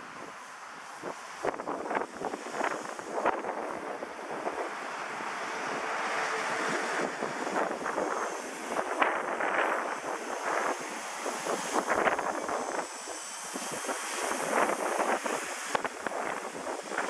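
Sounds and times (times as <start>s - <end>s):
wind buffeting microphone: 0.0s - 17.0s
rc helicopter high whine: 0.8s - 17.0s.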